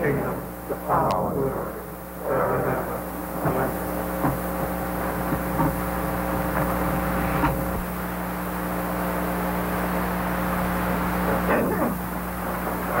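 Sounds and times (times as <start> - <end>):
room hum with low tones: 0.0 - 13.0.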